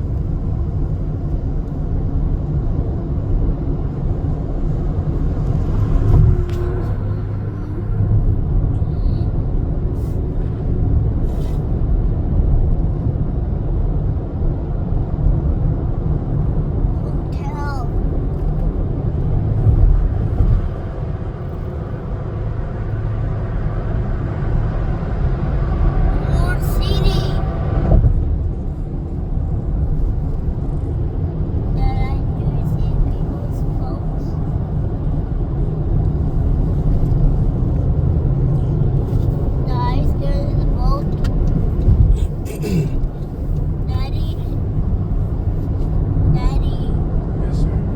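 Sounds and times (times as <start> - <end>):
heavy truck engine and road noise: 0.0 - 47.9.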